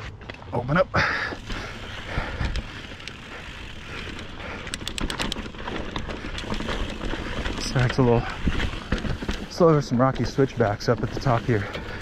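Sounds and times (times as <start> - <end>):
bike tyres rolling over rock: 0.0 - 12.0.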